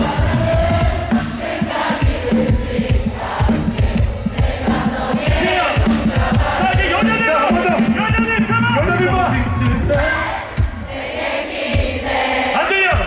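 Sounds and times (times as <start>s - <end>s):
crowd cheering and singing: 0.0s - 13.0s
heavy drum beat: 0.0s - 13.0s
loud live pop music: 0.0s - 13.0s.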